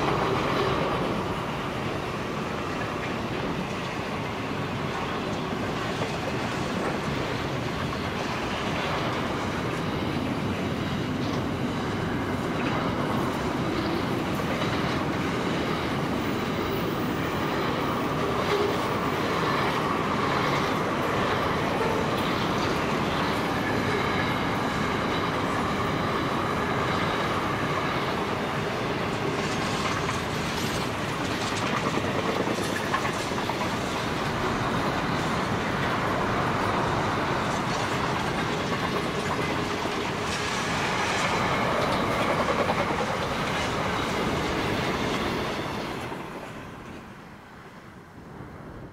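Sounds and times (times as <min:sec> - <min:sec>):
wheels clacking over rail joints: 0:00.0 - 0:47.1
steel wheels rolling on rail: 0:00.0 - 0:48.9.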